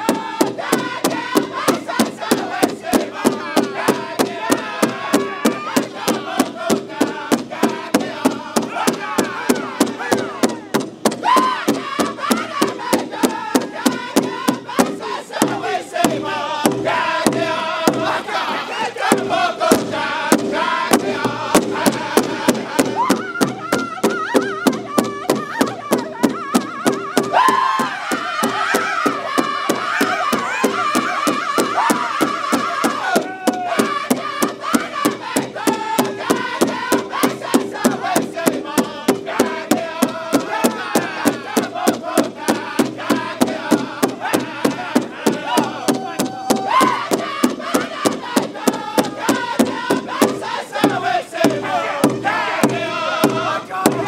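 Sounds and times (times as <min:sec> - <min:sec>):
group singing in high voices: 0:00.0 - 0:54.0
large hide drum beat: 0:00.0 - 0:54.0.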